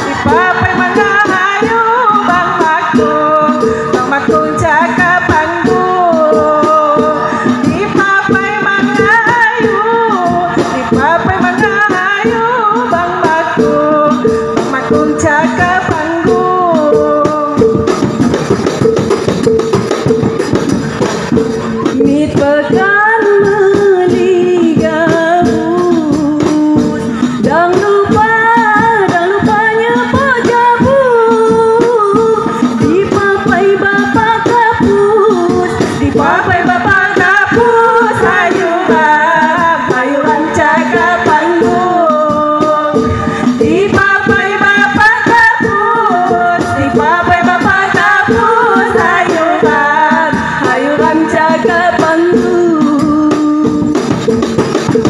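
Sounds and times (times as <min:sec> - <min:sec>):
person singing: 0:00.0 - 0:18.1, 0:21.6 - 0:54.2
frame drums: 0:00.0 - 0:55.0.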